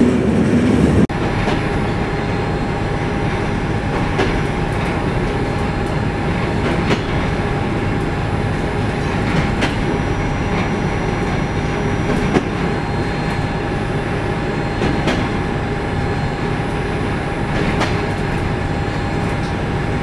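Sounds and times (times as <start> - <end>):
train rumbling on track: 0.0 - 20.0
train whine: 0.0 - 20.0
wheels clicking over rail joints: 1.1 - 20.0.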